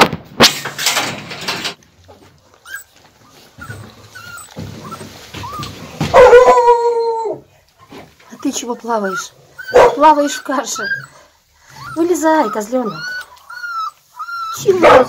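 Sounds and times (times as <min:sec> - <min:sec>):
rustling: 0:00.0 - 0:15.0
puppies whimpering: 0:02.4 - 0:15.0.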